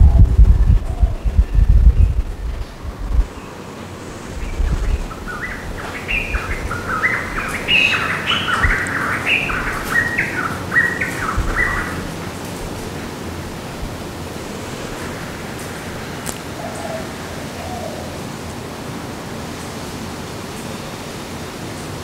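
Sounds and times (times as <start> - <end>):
songbird singing: 0.0 - 18.4.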